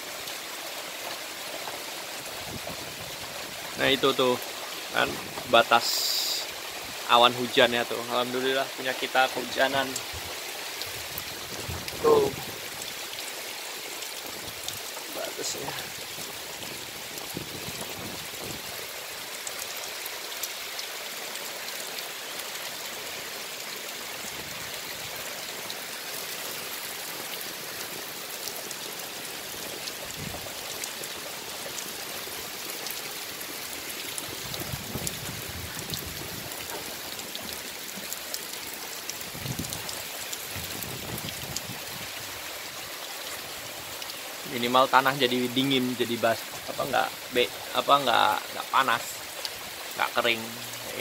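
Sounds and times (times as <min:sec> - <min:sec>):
steady rain falling: 0:00.0 - 0:51.0
water dripping off roof: 0:00.0 - 0:51.0.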